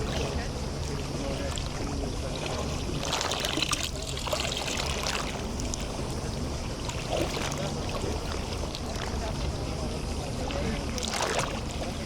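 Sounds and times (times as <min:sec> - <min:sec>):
low engine hum: 0:00.0 - 0:12.0
waves lapping on shore: 0:00.0 - 0:12.0.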